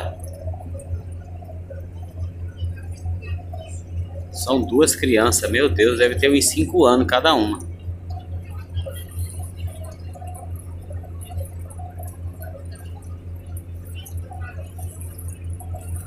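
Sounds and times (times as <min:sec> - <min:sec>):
diesel engine throbbing: 0:00.0 - 0:16.0.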